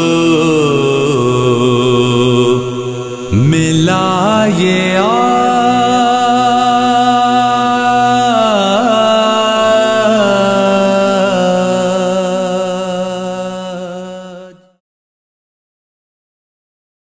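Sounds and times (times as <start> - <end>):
men chanting an elegy: 0.0 - 14.0.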